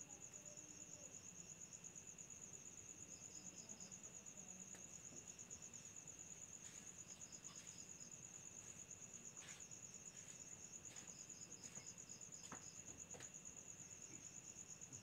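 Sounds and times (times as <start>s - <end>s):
lower cricket chirps: 0.0s - 15.0s.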